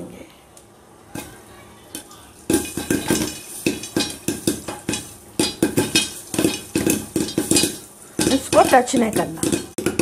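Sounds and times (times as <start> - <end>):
popcorn popping in a pot: 1.0 - 10.0.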